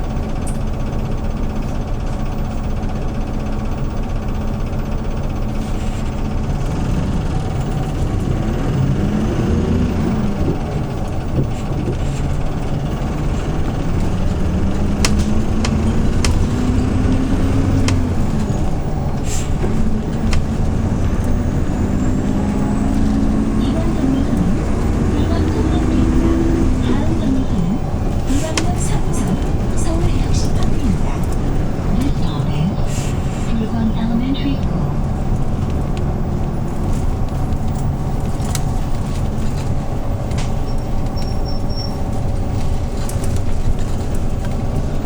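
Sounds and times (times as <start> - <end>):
bus engine running: 0.0 - 45.0
sharp clicks: 6.2 - 45.0.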